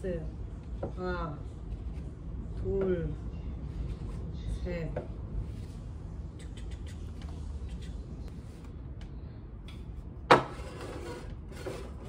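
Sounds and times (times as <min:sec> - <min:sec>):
steady low rumble: 0:00.0 - 0:10.3.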